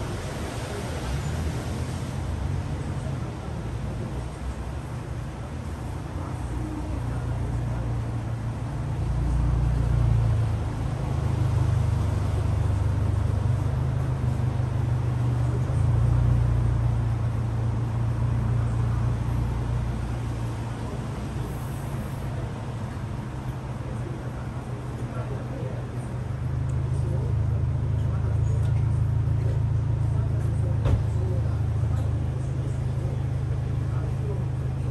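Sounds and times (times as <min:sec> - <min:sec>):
vehicle engine rumbling: 0:00.0 - 0:34.9.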